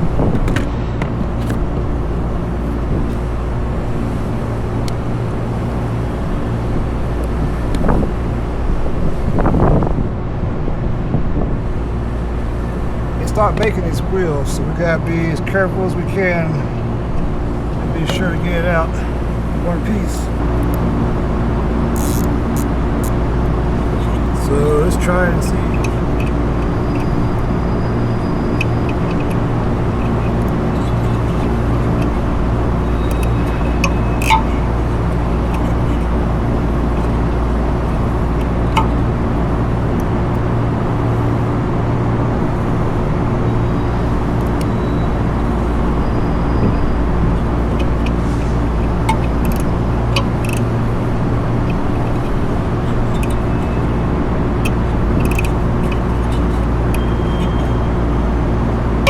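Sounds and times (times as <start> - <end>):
machinery humming: 11.7 - 59.0.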